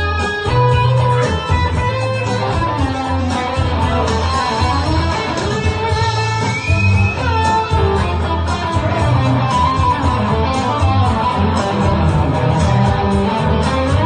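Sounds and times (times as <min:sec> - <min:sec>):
bass line: 0:00.0 - 0:14.0
drum beat: 0:00.0 - 0:14.0
electric guitar lead: 0:00.0 - 0:14.0.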